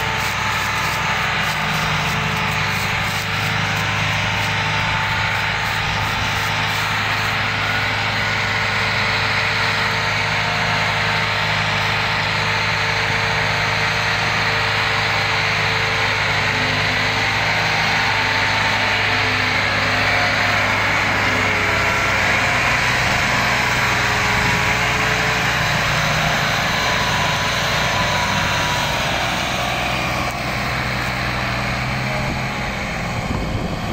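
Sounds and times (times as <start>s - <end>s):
diesel tractor engine under load: 0.0s - 33.9s.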